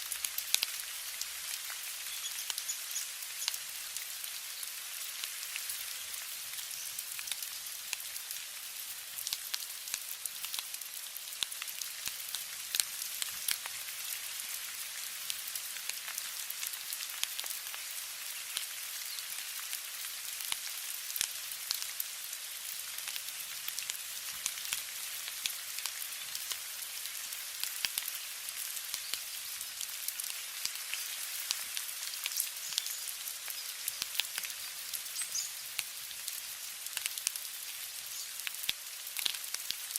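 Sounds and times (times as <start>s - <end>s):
rain ticking on hard surface: 0.0s - 39.9s.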